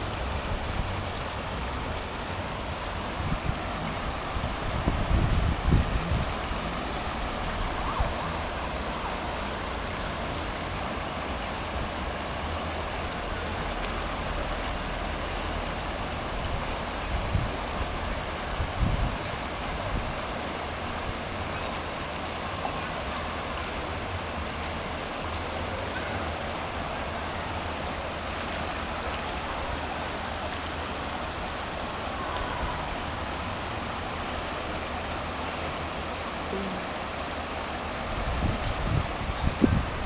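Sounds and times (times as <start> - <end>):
heavy rain falling: 0.0 - 40.0
running water: 0.0 - 40.0.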